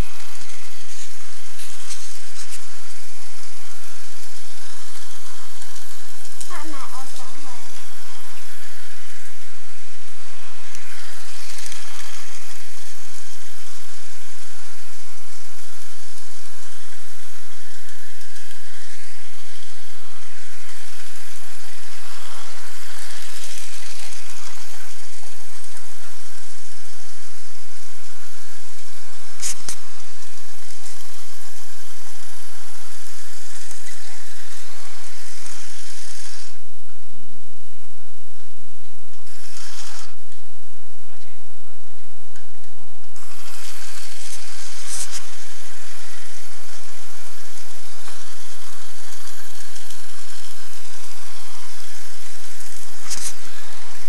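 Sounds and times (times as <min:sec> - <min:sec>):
toy train motor whirring: 0:00.0 - 0:36.9, 0:39.1 - 0:40.6, 0:42.3 - 0:54.0.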